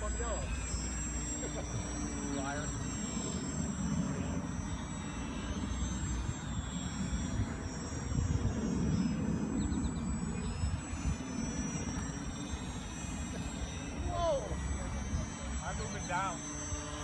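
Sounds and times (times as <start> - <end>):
model plane motors whining: 0.0 - 17.0.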